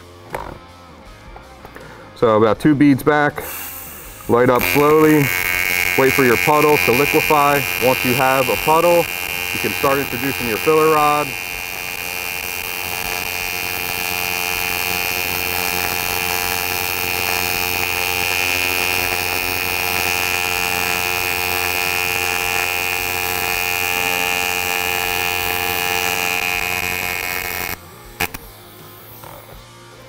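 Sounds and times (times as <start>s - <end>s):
welding arc buzzing with high whine: 3.4s - 29.6s.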